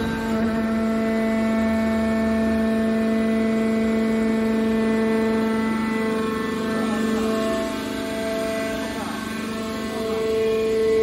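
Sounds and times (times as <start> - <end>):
hydraulic motor and pump humming: 0.0 - 11.0.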